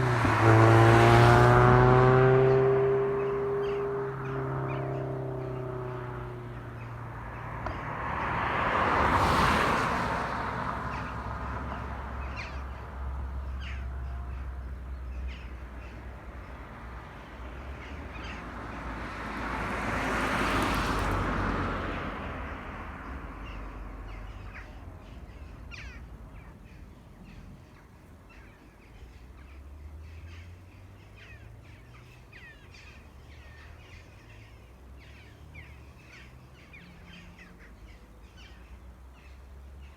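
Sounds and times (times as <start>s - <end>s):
low road rumble: 0.0s - 39.9s
vehicles passing: 0.0s - 39.9s.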